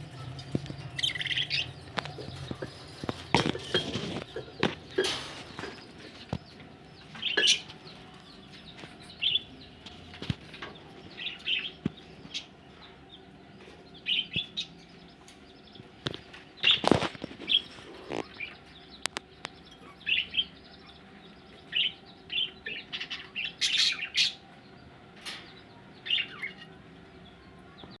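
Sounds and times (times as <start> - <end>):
budgerigars chirping: 0.0 - 13.2, 14.0 - 24.5.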